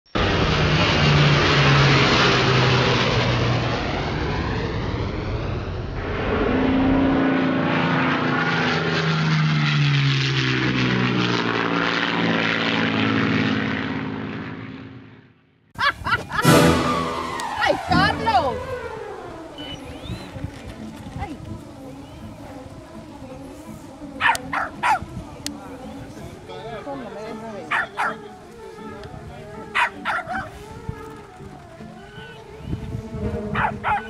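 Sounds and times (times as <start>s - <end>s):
aircraft engine drone: 0.1s - 34.0s.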